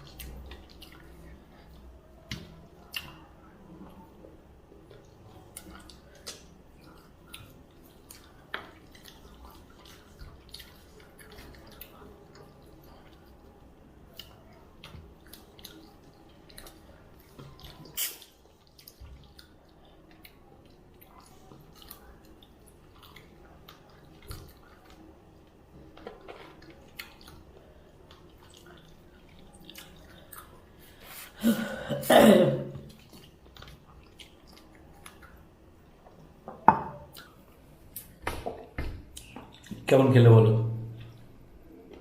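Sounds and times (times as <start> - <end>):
wet chewing sounds: 0.0 - 4.1, 4.7 - 31.4, 32.8 - 36.4.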